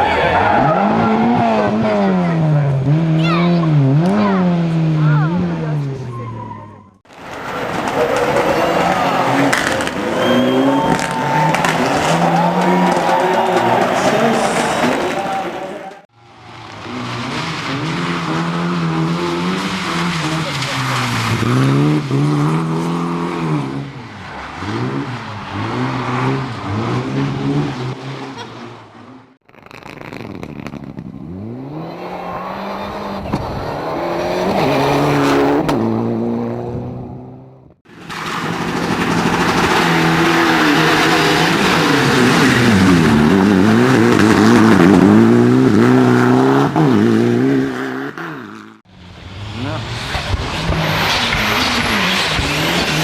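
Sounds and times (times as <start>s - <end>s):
racing car engines revving: 0.0s - 29.4s, 30.7s - 53.0s.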